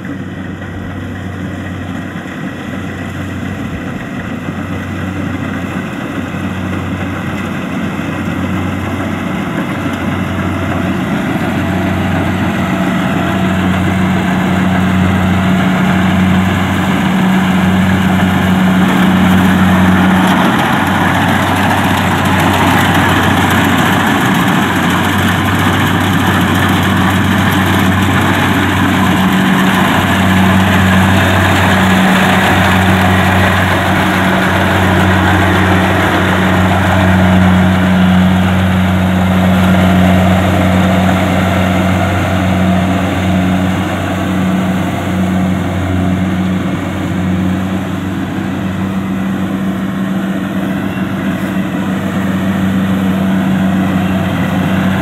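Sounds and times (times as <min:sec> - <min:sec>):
combine harvester engine humming: 0:00.0 - 0:55.0
machinery whirring: 0:00.1 - 0:55.0.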